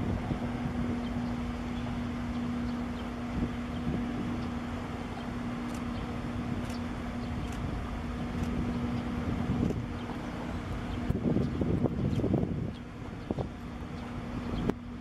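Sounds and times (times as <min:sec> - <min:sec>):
ship machinery humming: 0:00.0 - 0:15.0
wind rumble on microphone: 0:00.0 - 0:15.0.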